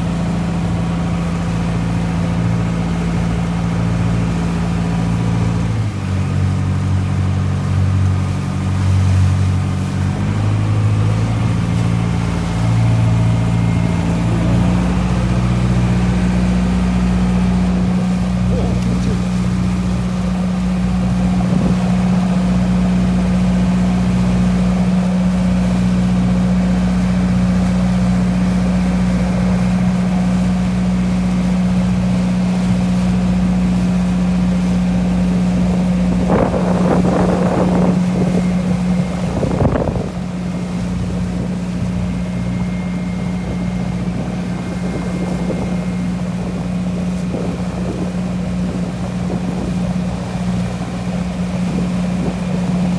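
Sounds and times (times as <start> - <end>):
ferry engine droning: 0.0 - 52.9
wind noise on microphone: 9.3 - 52.9.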